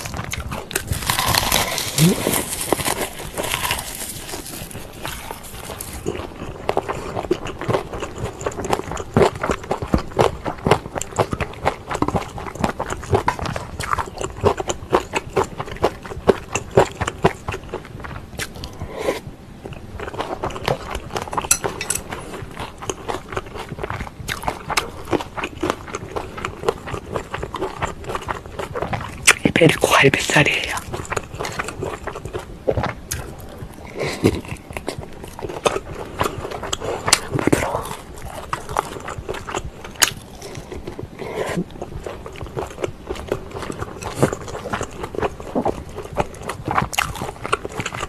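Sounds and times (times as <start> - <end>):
wet chewing and smacking: 0.0 - 48.0.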